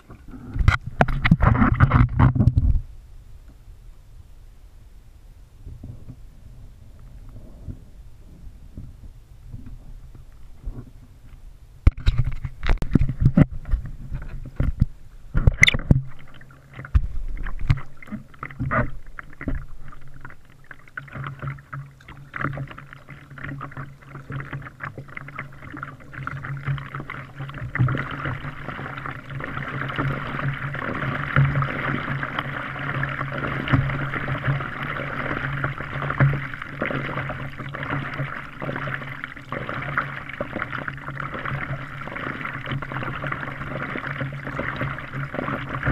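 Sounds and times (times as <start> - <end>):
kayak hull knocking and scraping: 0.0 - 2.9, 5.7 - 6.3, 8.7 - 45.9
water rushing along bow: 0.0 - 2.9, 11.8 - 45.9.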